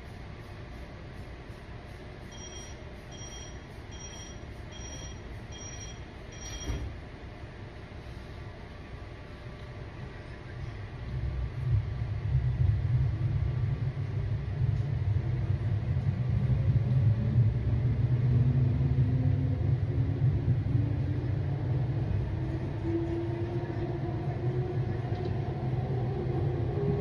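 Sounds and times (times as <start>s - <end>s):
train low rumble: 0.0s - 27.0s.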